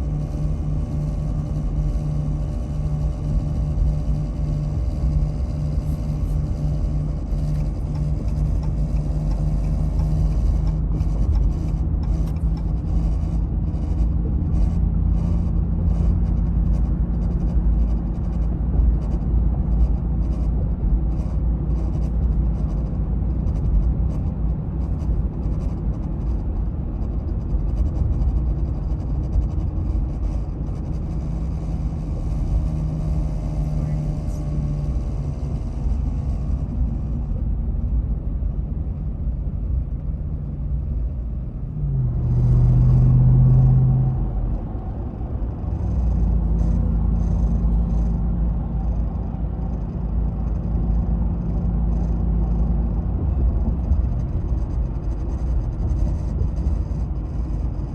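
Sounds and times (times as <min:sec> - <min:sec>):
engine and road rumble: 0:00.0 - 0:57.9
throbbing hum: 0:00.0 - 0:57.9.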